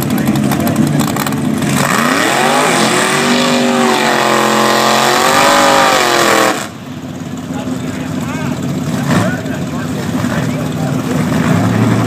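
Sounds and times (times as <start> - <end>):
drag car engine revving: 0.0 - 12.0.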